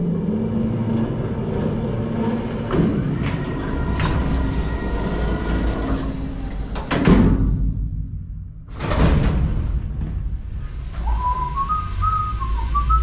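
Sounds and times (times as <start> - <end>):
metal equipment rumbling and rattling: 0.0 - 13.0.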